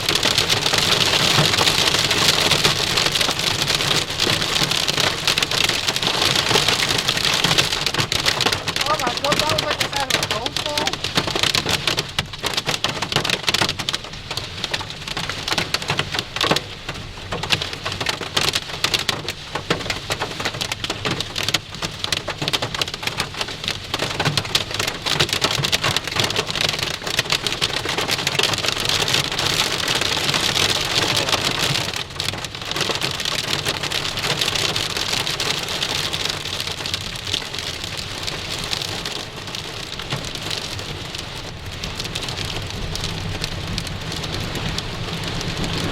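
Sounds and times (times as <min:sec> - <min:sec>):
hail and rain on car roof: 0:00.0 - 0:45.9.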